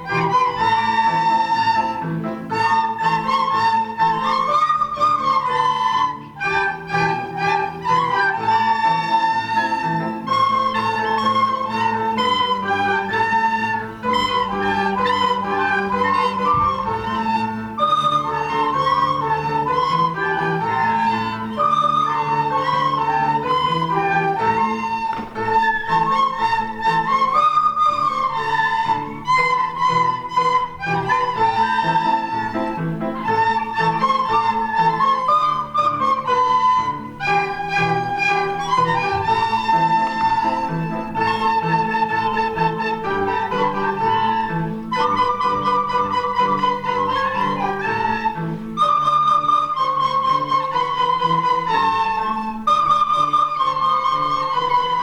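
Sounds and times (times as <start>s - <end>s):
instrumental melody: 0.0s - 55.0s.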